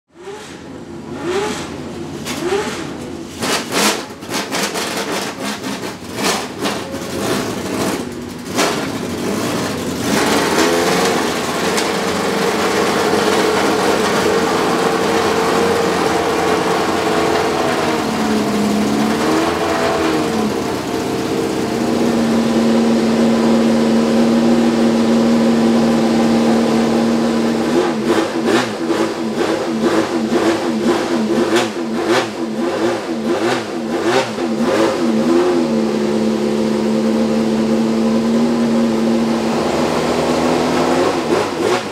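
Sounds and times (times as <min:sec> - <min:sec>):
race car engine starting and idling: 0:00.1 - 0:41.9.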